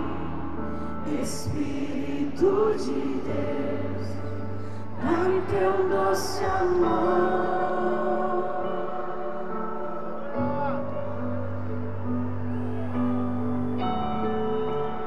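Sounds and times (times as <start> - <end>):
crowd singing along: 0.0 - 15.0
gospel band over sound system: 0.0 - 15.0.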